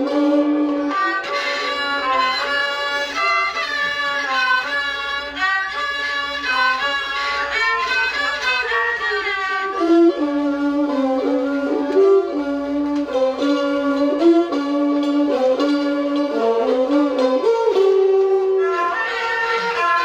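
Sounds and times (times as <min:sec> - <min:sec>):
classical ensemble music: 0:00.0 - 0:20.0.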